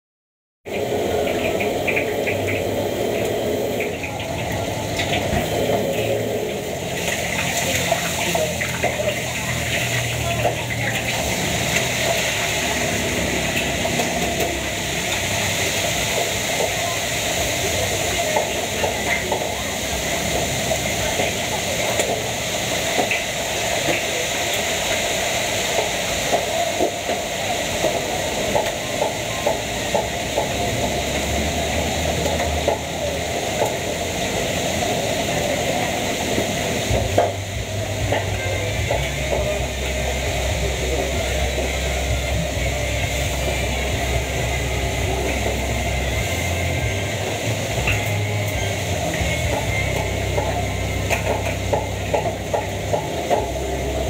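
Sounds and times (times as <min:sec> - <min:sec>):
gas burner hissing: 0:00.7 - 0:54.0.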